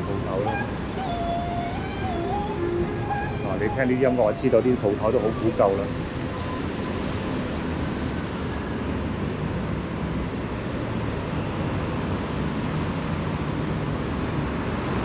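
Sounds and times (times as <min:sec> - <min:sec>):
traffic rumble and hum: 0:00.0 - 0:15.0.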